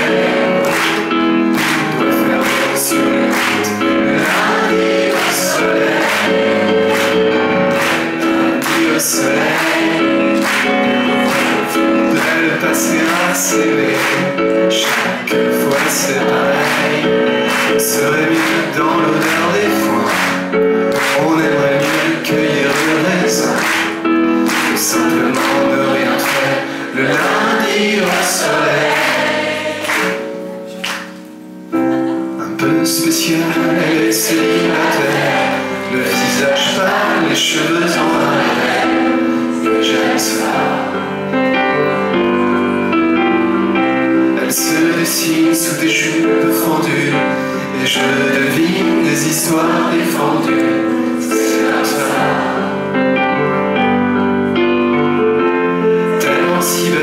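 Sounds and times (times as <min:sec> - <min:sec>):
audience singing along: 0:00.0 - 0:30.5, 0:32.6 - 0:42.7, 0:43.7 - 0:53.5
piano chords: 0:00.0 - 0:57.0.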